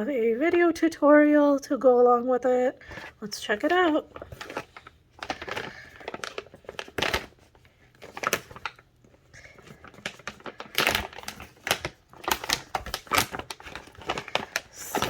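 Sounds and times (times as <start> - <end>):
packaging rustling and crinkling: 2.8 - 15.0.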